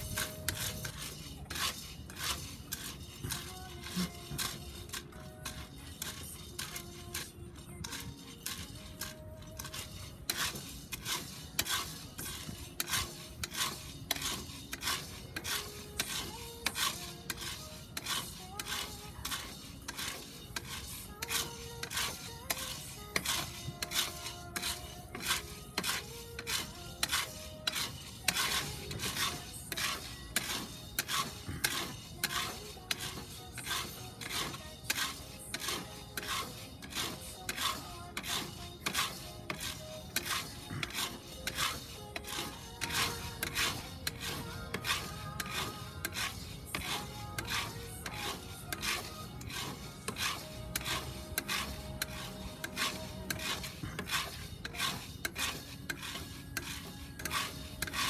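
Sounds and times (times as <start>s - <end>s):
coffee beans rattling in iron pot: 0.0s - 58.0s.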